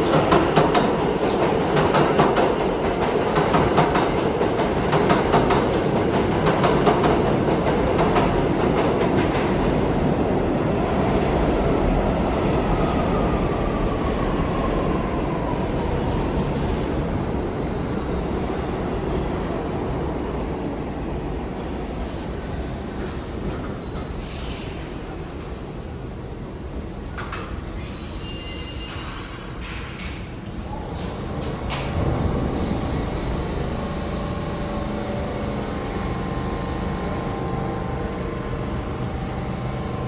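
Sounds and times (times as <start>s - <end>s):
subway train rumble: 0.0s - 40.0s
subway train wheels clattering: 0.0s - 40.0s.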